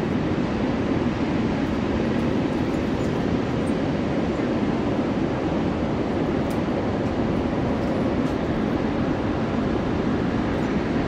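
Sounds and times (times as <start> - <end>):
ocean waves breaking in surf: 0.0 - 11.0.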